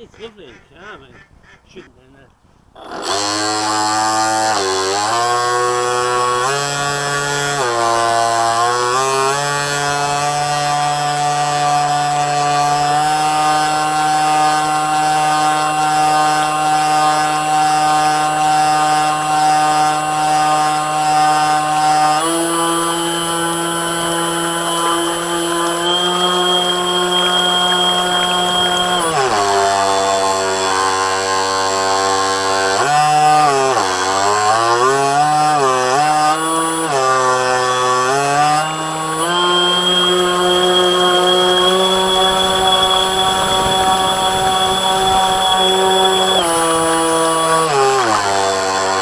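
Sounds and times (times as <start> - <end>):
electric motor whining: 2.8 - 49.0.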